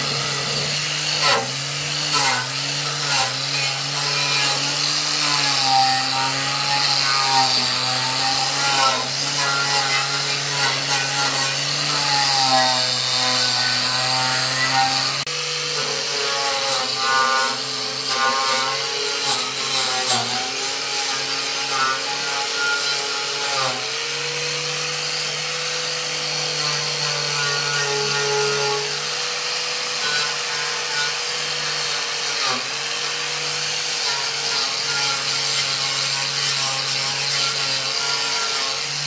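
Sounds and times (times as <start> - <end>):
angle grinder grinding wood: 0.0 - 39.0.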